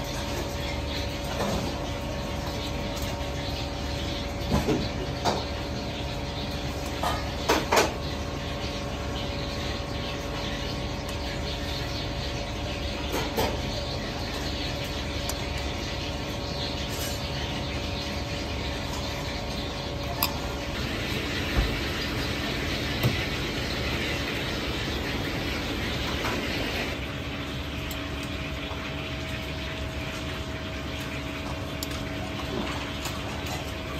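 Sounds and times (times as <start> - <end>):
ventilation drone: 0.0 - 33.9.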